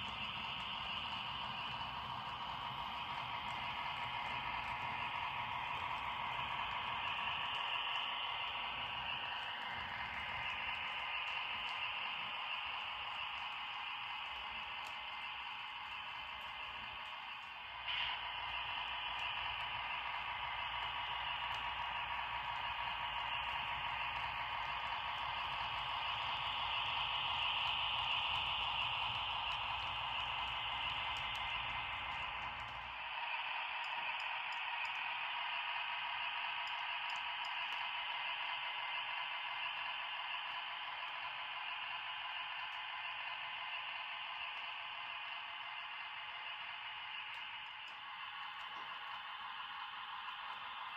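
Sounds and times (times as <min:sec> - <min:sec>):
model train running on track: 0:00.0 - 0:50.9.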